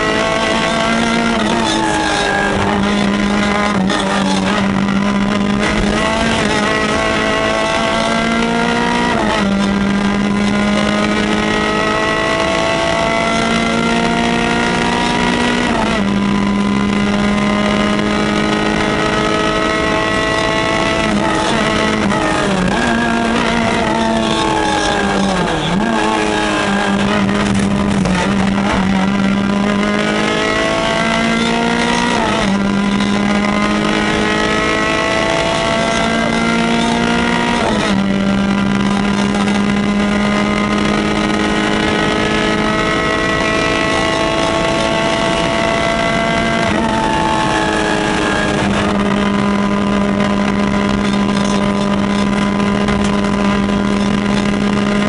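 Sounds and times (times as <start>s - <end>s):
rally car engine revving through gears: 0.0s - 55.0s.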